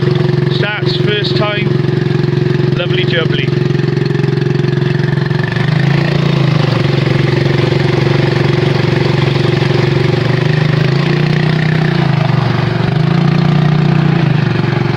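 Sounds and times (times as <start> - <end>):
outboard motor running: 0.0 - 14.9.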